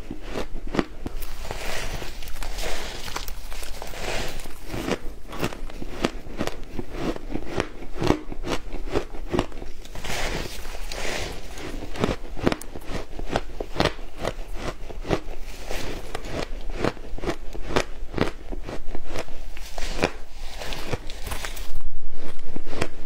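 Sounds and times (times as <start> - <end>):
ice crunching while chewed: 0.0 - 21.8.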